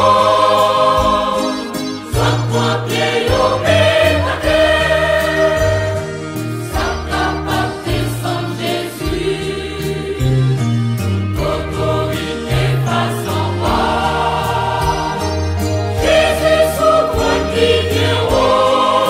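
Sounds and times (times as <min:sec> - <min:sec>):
gospel choir singing: 0:00.0 - 0:19.0.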